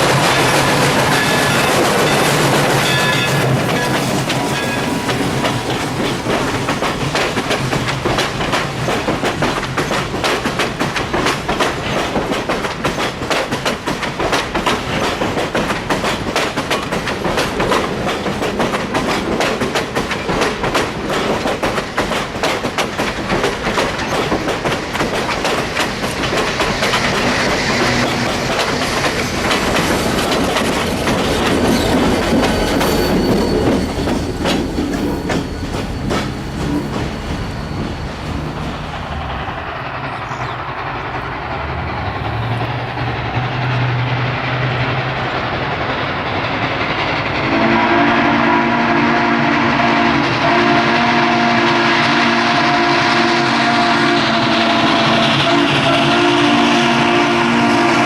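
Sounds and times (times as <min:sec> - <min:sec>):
train wheels clicking over rail joints: 0:00.0 - 0:48.5.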